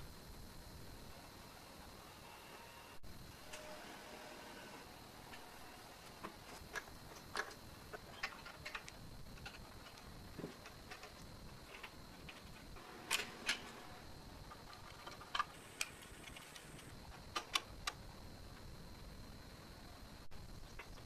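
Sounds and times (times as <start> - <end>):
faint high-pitched hum: 0.0 - 21.0.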